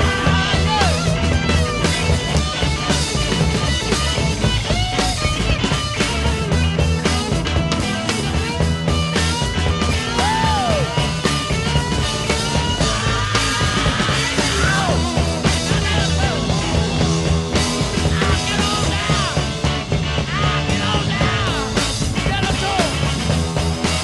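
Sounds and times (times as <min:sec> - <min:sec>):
bass line: 0:00.0 - 0:24.0
bending lead guitar lines: 0:00.0 - 0:24.0
rock music: 0:00.0 - 0:24.0.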